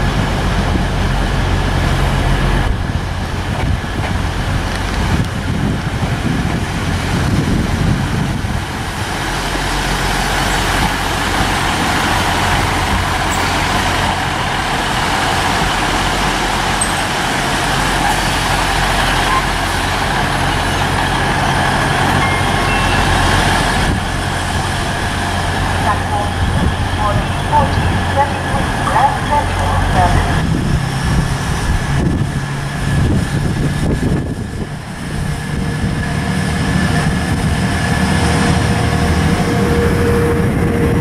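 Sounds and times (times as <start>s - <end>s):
diesel engine hum: 0.0s - 41.0s
wheels rumbling on rail: 0.0s - 41.0s.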